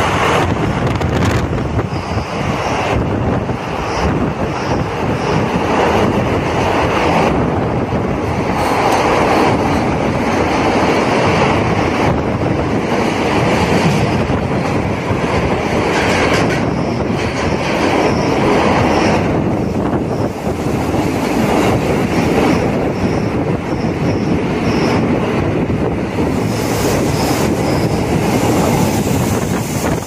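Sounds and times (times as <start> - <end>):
train rumbling through tunnel: 0.0 - 30.0.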